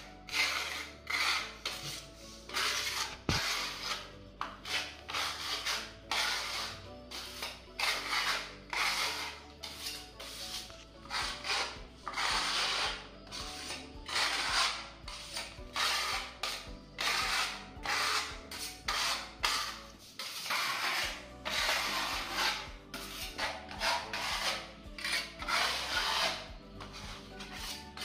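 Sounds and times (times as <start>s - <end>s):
spreader blade scraping plaster wall: 0.0s - 28.0s.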